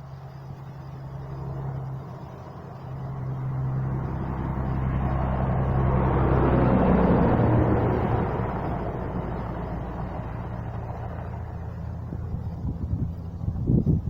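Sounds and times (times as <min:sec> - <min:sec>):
diesel truck engine running: 0:00.0 - 0:14.0
tyre and road noise: 0:00.0 - 0:14.0.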